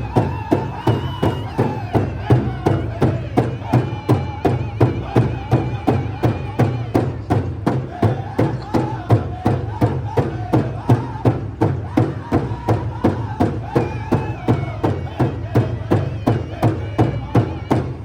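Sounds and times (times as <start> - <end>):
high-pitched group singing: 0.0 - 18.0
large drum steady beat: 0.0 - 18.0.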